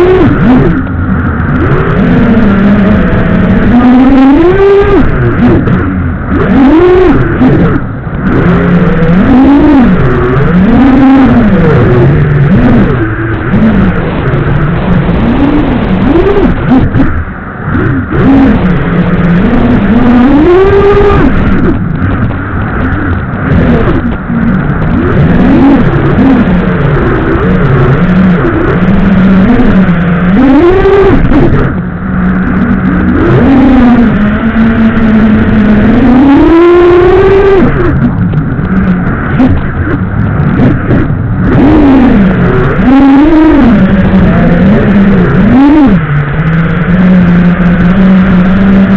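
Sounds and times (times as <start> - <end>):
quadcopter motors whining: 0.0 - 31.8, 32.5 - 48.9.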